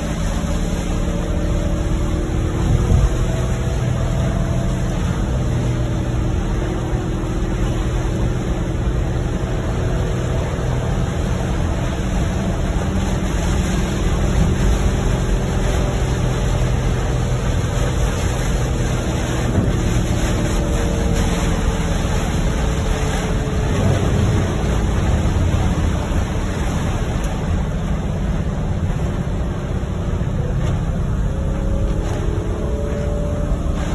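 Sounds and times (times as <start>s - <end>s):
low road and engine rumble: 0.0s - 33.9s
rain beating on car: 0.0s - 33.9s
tyres hissing on wet road: 0.0s - 33.9s.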